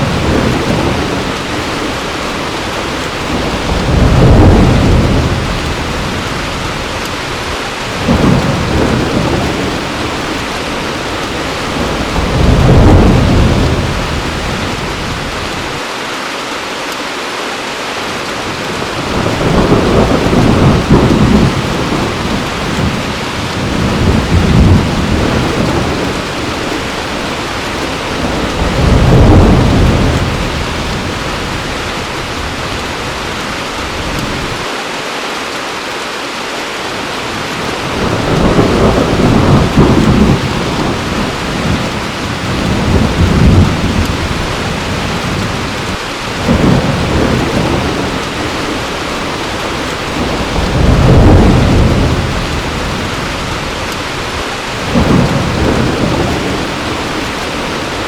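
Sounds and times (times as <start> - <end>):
thunder rumbling: 0.0 - 15.8, 18.4 - 34.7, 37.3 - 58.0
heavy rain: 0.0 - 58.0.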